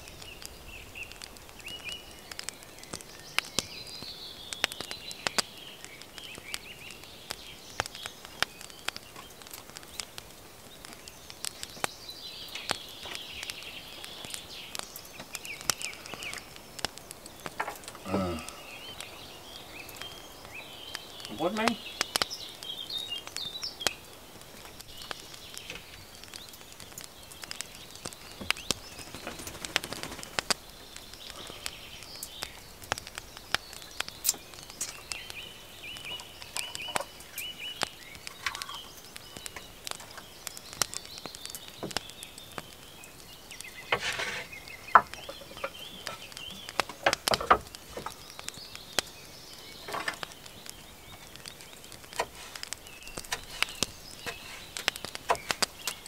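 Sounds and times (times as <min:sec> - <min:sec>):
faint bird chirping: 0:00.0 - 0:56.0
rain dripping taps: 0:00.0 - 0:56.0.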